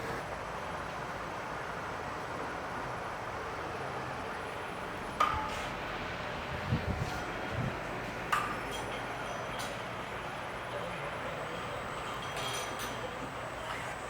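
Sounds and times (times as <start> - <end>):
low workshop hum: 0.0 - 14.0.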